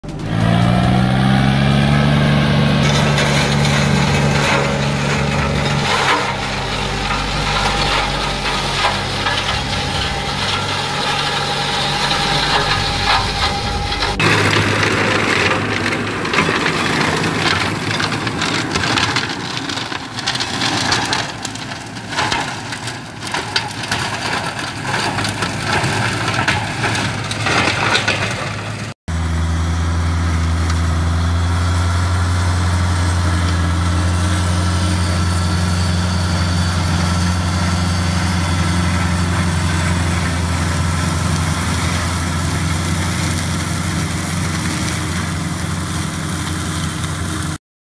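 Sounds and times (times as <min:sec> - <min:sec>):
flail mulcher shredding wood: 0:00.0 - 0:47.6
tractor engine: 0:00.0 - 0:47.6.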